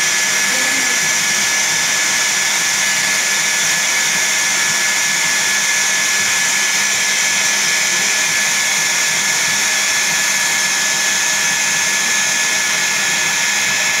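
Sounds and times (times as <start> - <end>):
water filter plant rushing: 0.0 - 14.0.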